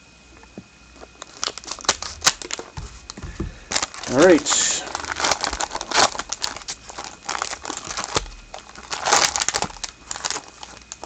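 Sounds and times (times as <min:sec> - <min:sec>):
wrapper and cardboard rustling: 0:01.0 - 0:11.0.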